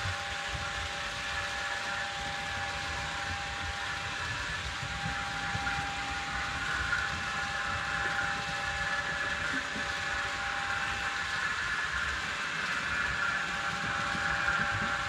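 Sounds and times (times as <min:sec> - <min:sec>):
model train wheels humming: 0:00.0 - 0:15.0
thin whining tone: 0:00.0 - 0:15.0.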